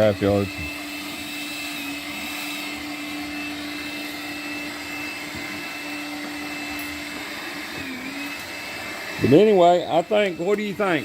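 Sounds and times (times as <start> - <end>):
cordless vacuum running: 0.0 - 11.0.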